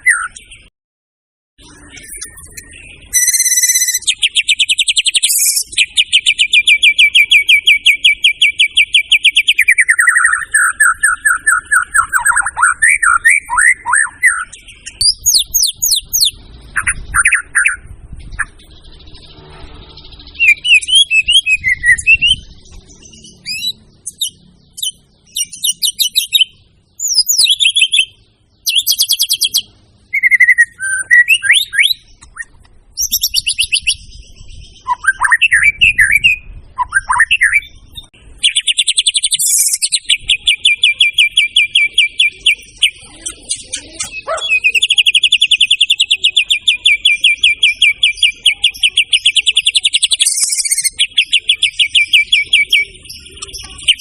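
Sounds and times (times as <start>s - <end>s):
songbird singing: 0.0s - 0.7s, 1.6s - 54.0s.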